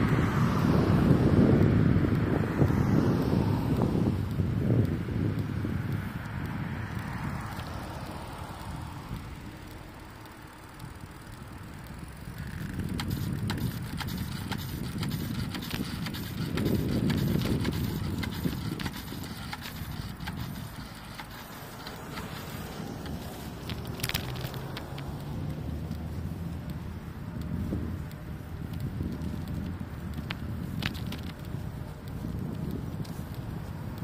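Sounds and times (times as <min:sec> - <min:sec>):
bicycle clicks and rattles: 0:00.0 - 0:34.0
wind buffeting microphone: 0:00.0 - 0:34.0.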